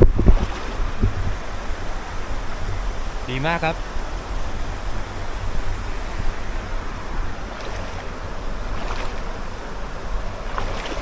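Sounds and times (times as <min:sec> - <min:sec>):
stream water rushing: 0:00.0 - 0:11.0
wind on microphone: 0:00.0 - 0:11.0.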